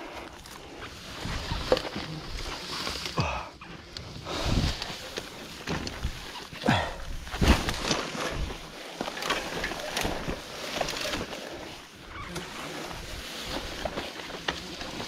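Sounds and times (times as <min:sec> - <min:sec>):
rustling through vegetation: 0:00.0 - 0:15.0.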